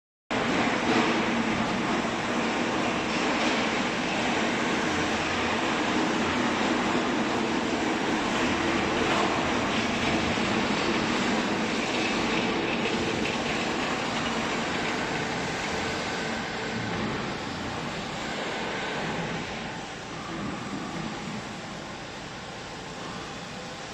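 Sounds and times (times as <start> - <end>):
hydraulic baling press droning: 0.3 - 23.6.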